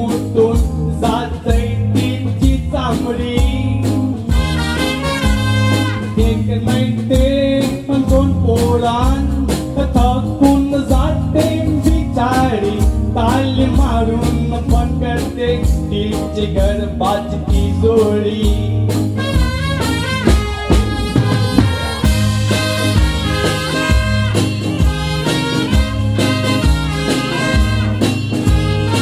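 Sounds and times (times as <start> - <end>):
bass line: 0.0 - 29.0
live folk band playing: 0.0 - 29.0
sliding lead melody: 0.0 - 29.0
steady drum beat: 0.0 - 29.0.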